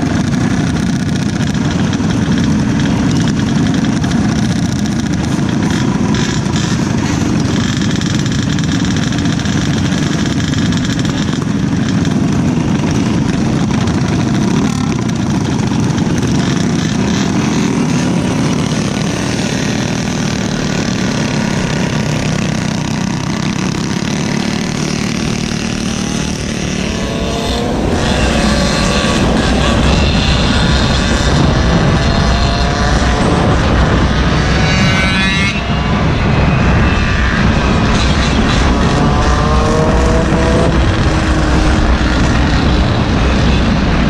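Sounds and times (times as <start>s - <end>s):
small gasoline engines running: 0.0s - 44.0s.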